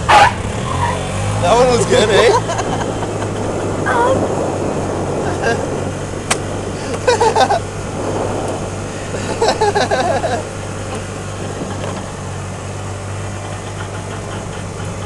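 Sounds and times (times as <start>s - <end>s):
golf cart driving hum: 0.0s - 15.0s
wind and tyre noise: 0.0s - 15.0s.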